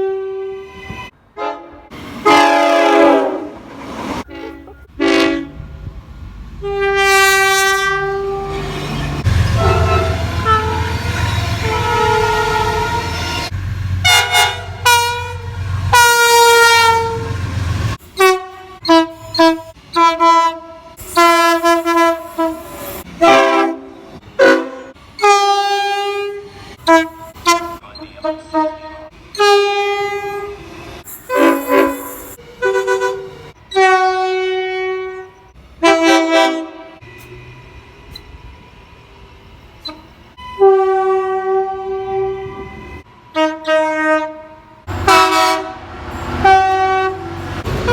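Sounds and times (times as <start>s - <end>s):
locomotive air horns tooting: 0.0s - 5.8s, 6.6s - 38.4s, 39.8s - 47.9s.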